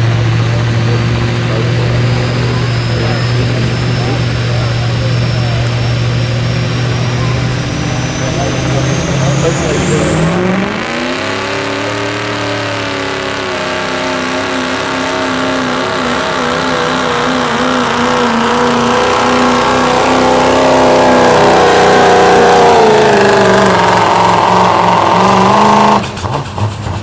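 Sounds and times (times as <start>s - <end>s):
diesel truck engine under heavy load: 0.0s - 27.0s.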